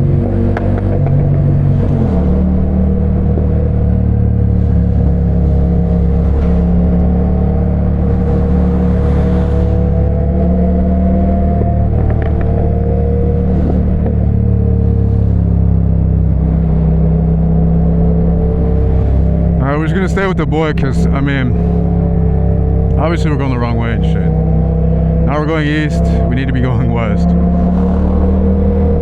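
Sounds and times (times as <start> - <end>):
motorcycle engine cruising: 0.0 - 29.0.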